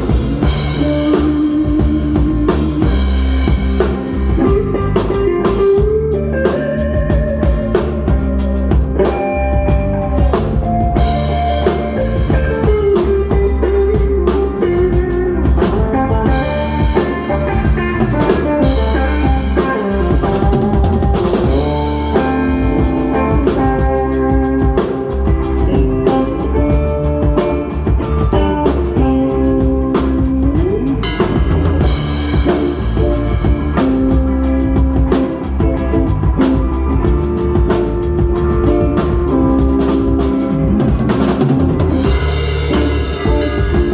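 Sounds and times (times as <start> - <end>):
bass guitar: 0.0 - 43.9
drum kit beat: 0.0 - 43.9
lead guitar with bent notes: 0.0 - 43.9.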